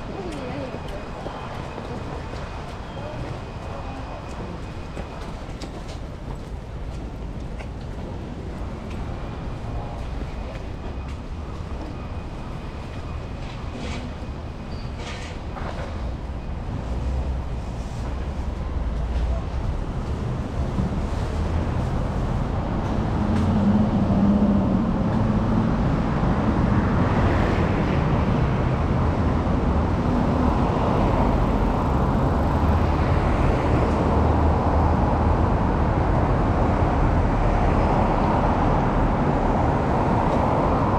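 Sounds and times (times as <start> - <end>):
vehicle engines: 0.0 - 40.9.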